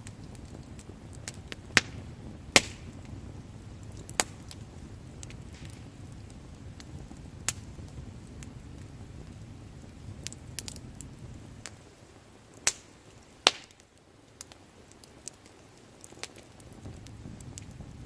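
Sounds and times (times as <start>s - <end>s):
fire crackling: 0.0s - 18.0s
fire popping: 0.0s - 18.0s
wood fire rumbling: 0.0s - 18.0s.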